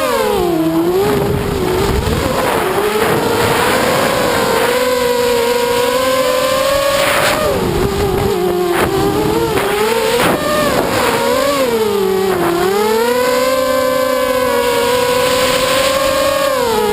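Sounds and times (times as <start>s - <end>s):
quadcopter motors whining: 0.0s - 16.9s.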